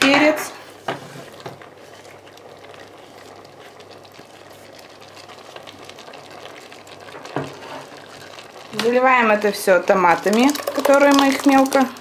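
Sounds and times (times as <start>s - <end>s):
food sizzling and bubbling: 0.0s - 12.0s.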